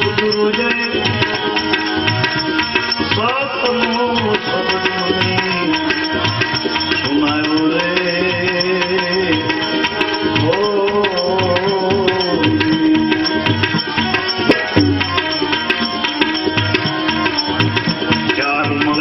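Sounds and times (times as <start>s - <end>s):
tabla playing a rhythm: 0.0s - 19.0s.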